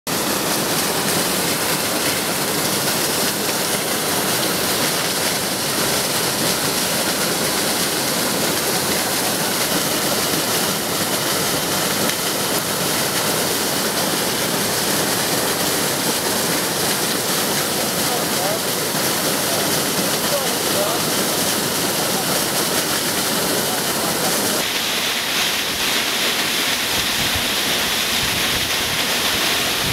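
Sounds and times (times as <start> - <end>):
waterfall rushing: 0.1 - 29.9.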